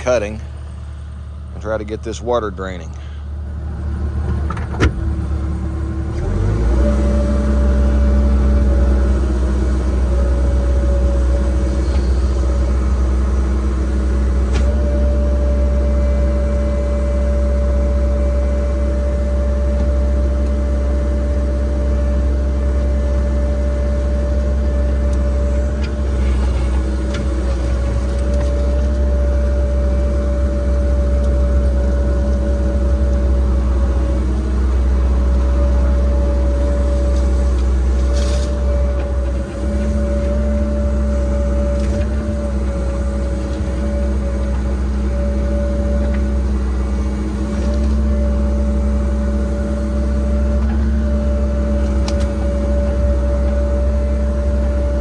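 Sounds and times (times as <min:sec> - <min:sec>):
excavator diesel engine revving: 0:00.0 - 0:55.0.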